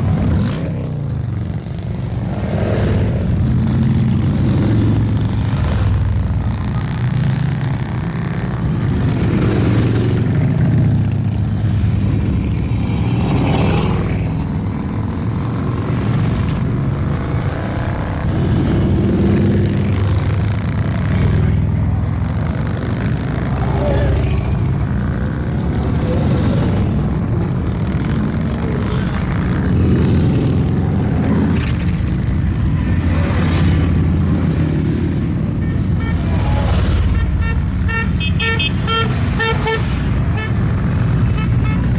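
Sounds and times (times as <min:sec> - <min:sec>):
motorcycles riding past: 0:00.0 - 0:41.9.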